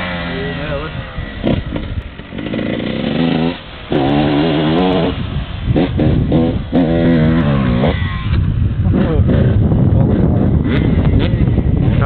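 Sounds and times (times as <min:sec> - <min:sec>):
motocross engine revving hard: 0:00.0 - 0:12.0.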